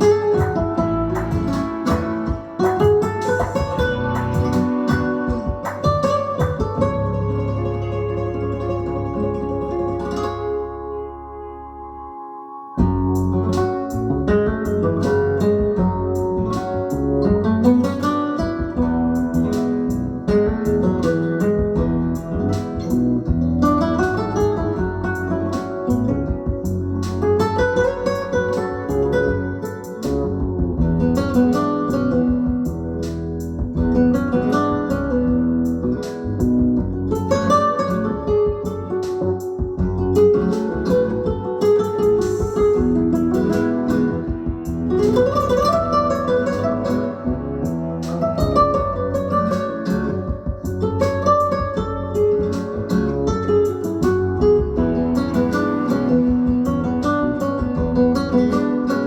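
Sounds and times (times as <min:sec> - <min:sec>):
steady percussive hits: 0:00.0 - 0:10.4, 0:12.8 - 0:59.0
plucked guitar music with bass: 0:00.0 - 0:59.0.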